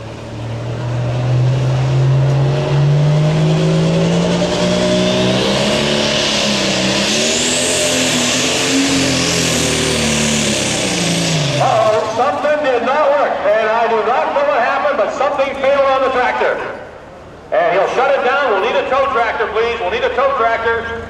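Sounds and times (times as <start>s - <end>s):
diesel tractor engine revving: 0.0s - 21.0s.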